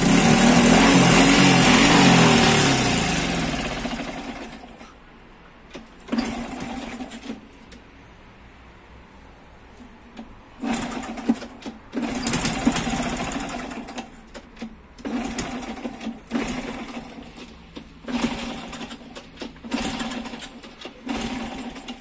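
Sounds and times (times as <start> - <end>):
motorcycle engine turning over: 0.0 - 4.8, 5.7 - 7.5, 10.2 - 22.0.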